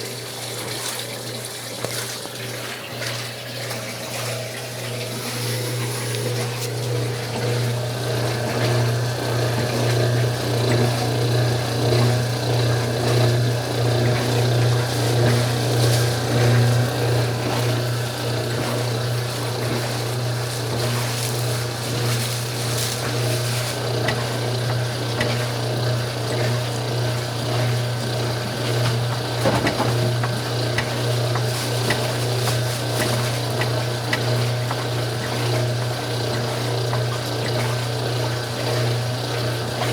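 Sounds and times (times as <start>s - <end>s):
washing machine motor hum: 0.0s - 39.9s
water swishing in tub: 0.0s - 39.9s.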